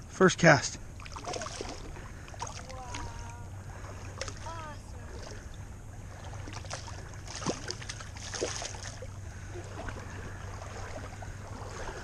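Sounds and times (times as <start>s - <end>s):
steady low hum: 0.0s - 12.0s
fish splashing in water: 1.0s - 12.0s.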